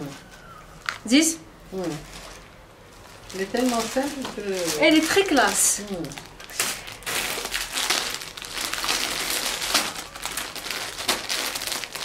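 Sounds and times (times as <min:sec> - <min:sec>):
packaging crinkling: 0:01.8 - 0:12.0.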